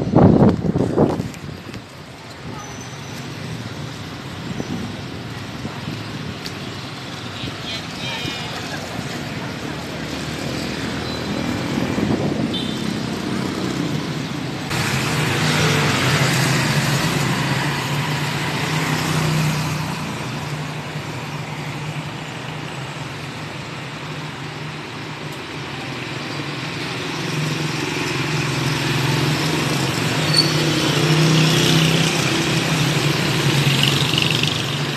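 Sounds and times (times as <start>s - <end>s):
traffic passing: 0.0s - 34.9s.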